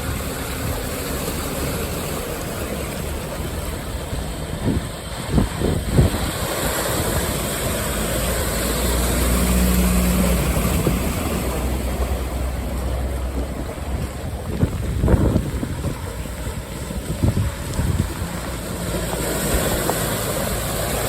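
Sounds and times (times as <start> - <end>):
vehicle engine running: 0.0 - 21.0
water rushing: 0.0 - 21.0
wind noise: 0.0 - 21.0.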